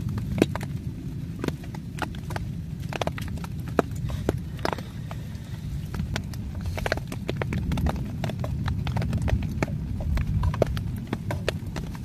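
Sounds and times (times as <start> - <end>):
low rumble: 0.0 - 12.0
wood fire crackling: 0.0 - 12.0.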